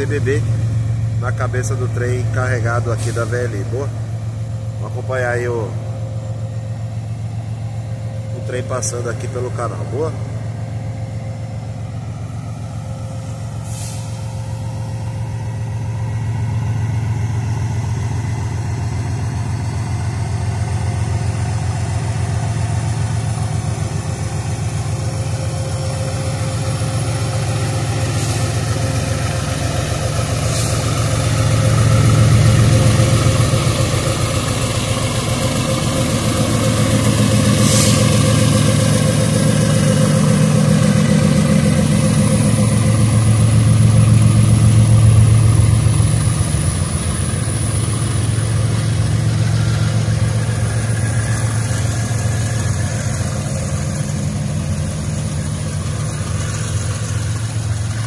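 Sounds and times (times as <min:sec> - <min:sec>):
diesel locomotive engine beat: 0:00.0 - 0:58.0.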